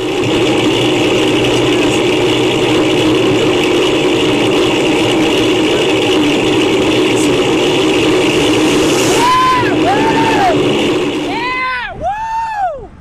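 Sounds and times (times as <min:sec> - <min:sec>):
bicycle tyres and drivetrain humming: 0:00.0 - 0:13.0.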